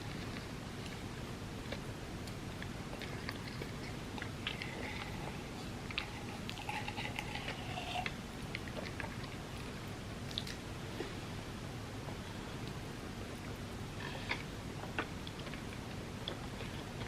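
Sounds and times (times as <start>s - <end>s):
close chewing and mouth sounds: 0.0s - 11.2s, 12.0s - 17.0s.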